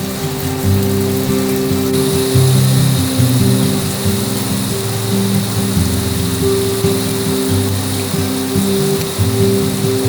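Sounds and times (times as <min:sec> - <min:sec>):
rain hissing: 0:00.0 - 0:10.0
soft background music: 0:00.0 - 0:10.0.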